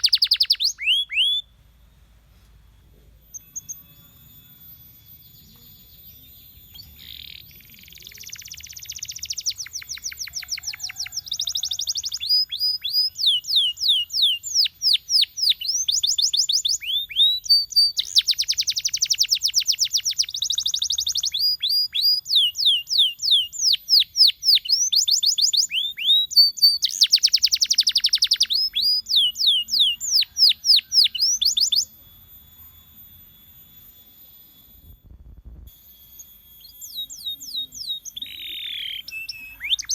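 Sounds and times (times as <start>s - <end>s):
canary singing: 0.0s - 2.0s, 3.0s - 34.6s, 36.0s - 39.9s.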